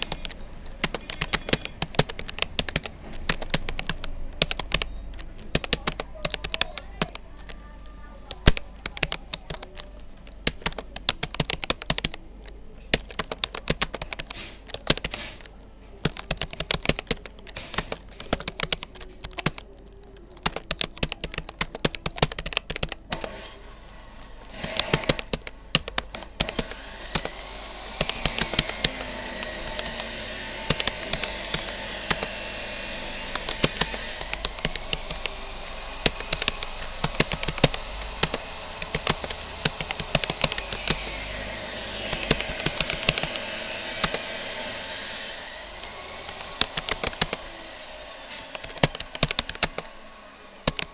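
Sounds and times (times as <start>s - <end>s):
computer keyboard typing: 0.0s - 50.9s
rushing background noise: 0.0s - 50.9s.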